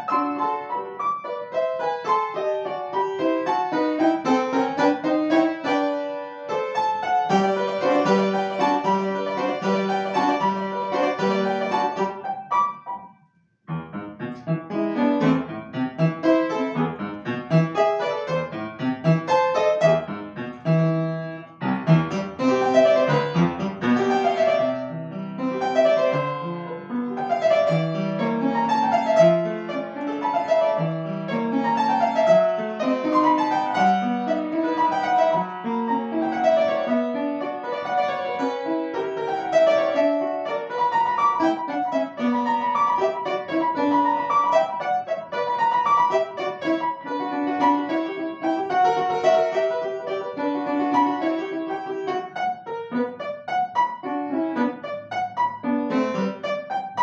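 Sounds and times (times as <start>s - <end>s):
solo piano classical piece: 0.0s - 57.0s.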